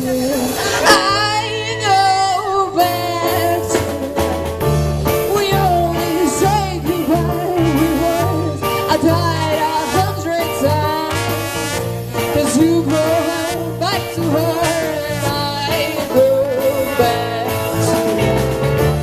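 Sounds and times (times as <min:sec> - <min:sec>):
live band playing upbeat music: 0:00.0 - 0:19.0.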